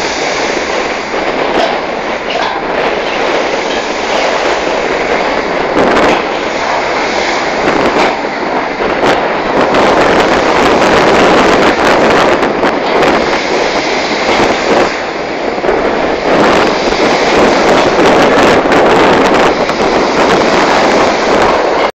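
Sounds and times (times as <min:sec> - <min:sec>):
choppy sea: 0:00.0 - 0:21.9
wind buffeting microphone: 0:00.0 - 0:21.9.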